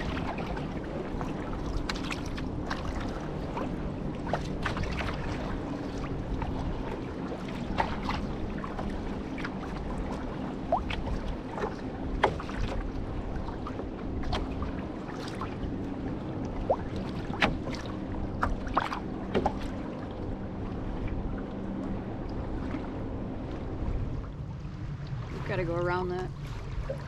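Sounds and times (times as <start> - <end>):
paddles dipping and splashing: 0.0 - 27.0
wind rumble on microphone: 0.0 - 27.0.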